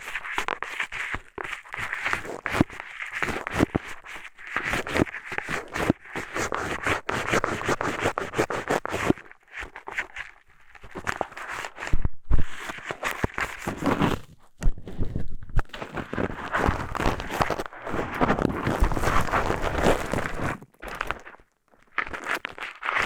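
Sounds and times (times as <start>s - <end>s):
scratching on microphone: 0.0s - 23.0s.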